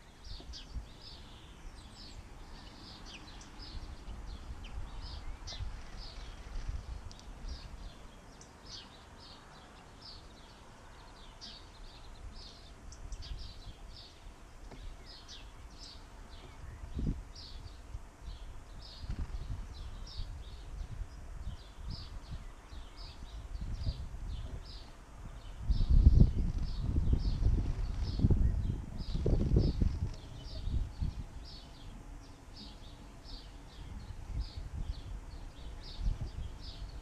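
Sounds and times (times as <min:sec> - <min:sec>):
wind rumble on microphone: 0:00.0 - 0:09.4, 0:10.0 - 0:37.0
small birds chirping: 0:00.0 - 0:37.0.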